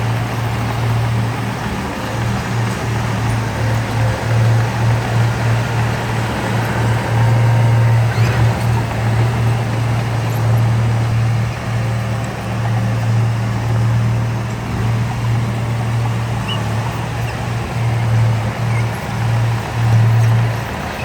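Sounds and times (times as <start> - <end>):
diesel engine of heavy machinery: 0.0 - 21.0.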